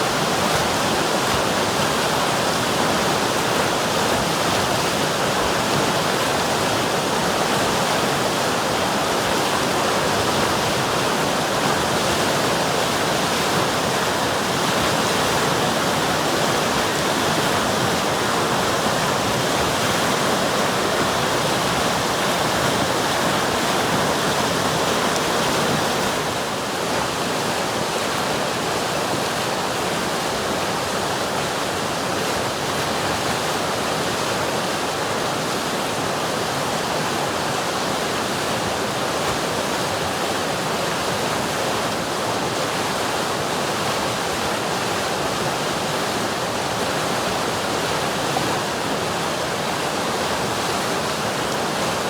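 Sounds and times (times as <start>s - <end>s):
river water rushing over rocks: 0.0s - 52.0s.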